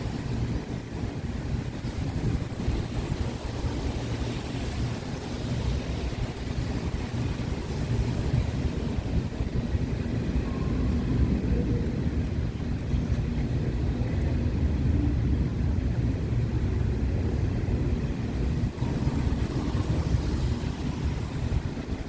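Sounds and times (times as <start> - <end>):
train rumbling: 0.0 - 22.0
wind buffeting microphone: 0.0 - 22.0.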